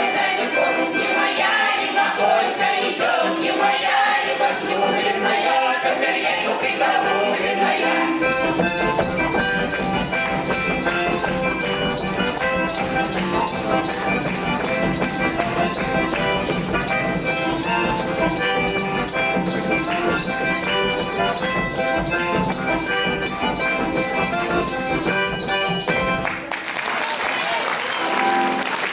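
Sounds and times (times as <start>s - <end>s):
folk ensemble instrumental music: 0.0s - 26.8s, 27.4s - 28.9s.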